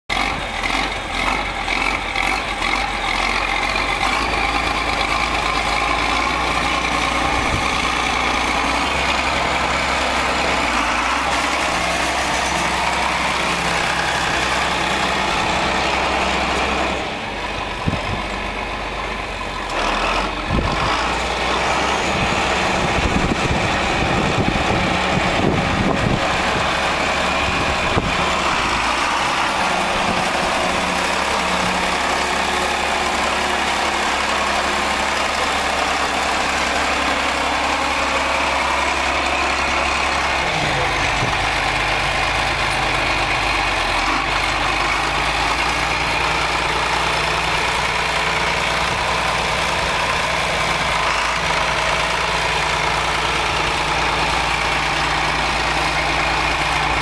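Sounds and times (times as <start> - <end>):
tractor diesel engine passing: 0.1 - 57.0.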